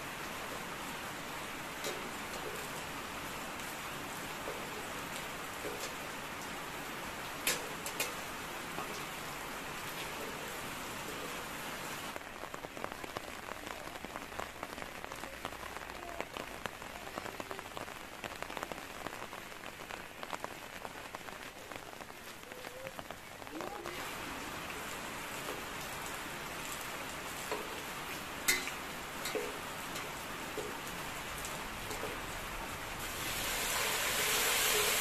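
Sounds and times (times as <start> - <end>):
rain pattering on leaves: 0.0 - 35.0.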